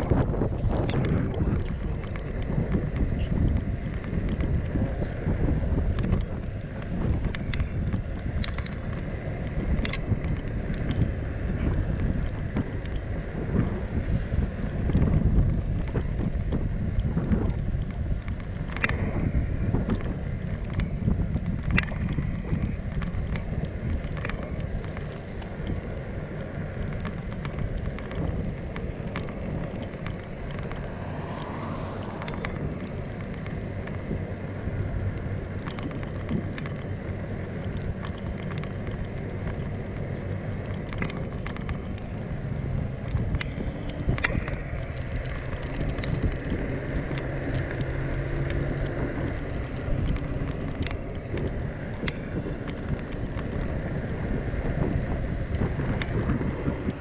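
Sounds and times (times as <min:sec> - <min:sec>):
sharp clicks: 0:00.0 - 0:13.7, 0:14.4 - 0:57.0
rolling rumble: 0:00.0 - 0:57.0
wind buffeting the microphone: 0:00.0 - 0:57.0.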